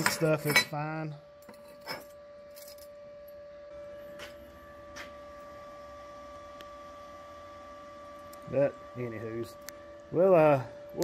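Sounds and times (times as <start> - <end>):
faint electrical hum: 0.0 - 11.0
higher hum tone: 0.0 - 11.0.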